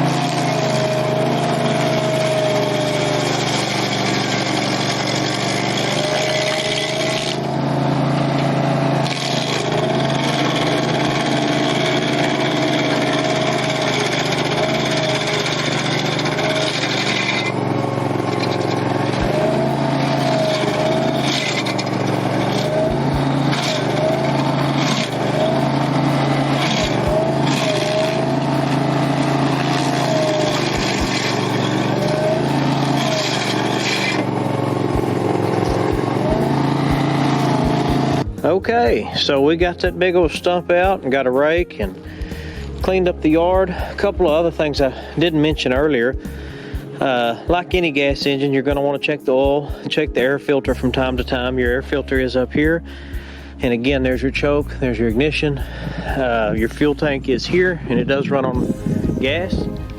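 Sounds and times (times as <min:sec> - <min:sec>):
cutter wheel grinding stump: 0:00.0 - 0:59.9
stump grinder engine running: 0:00.0 - 0:59.9.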